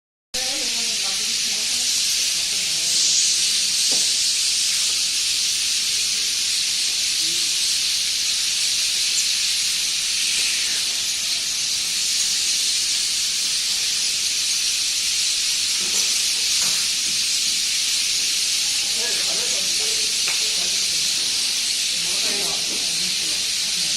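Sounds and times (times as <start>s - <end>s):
birds chirping in dense chorus: 0.4s - 23.9s.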